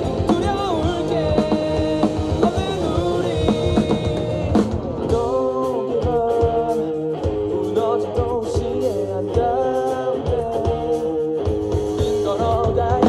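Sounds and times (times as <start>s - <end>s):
live rock band music: 0.0s - 13.0s.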